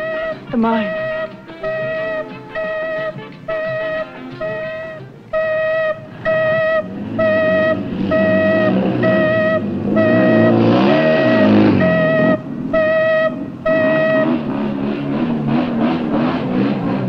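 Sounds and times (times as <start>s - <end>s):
alarm horn blasts: 0.0s - 15.2s.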